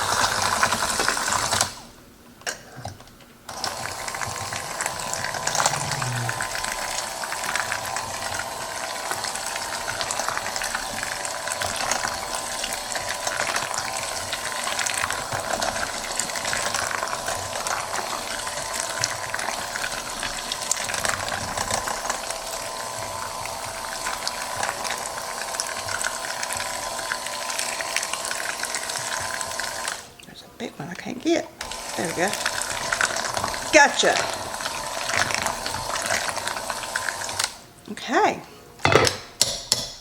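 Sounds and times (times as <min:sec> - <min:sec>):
hand mixer motor whine: 0:00.0 - 0:01.8, 0:03.5 - 0:30.2, 0:31.6 - 0:37.6.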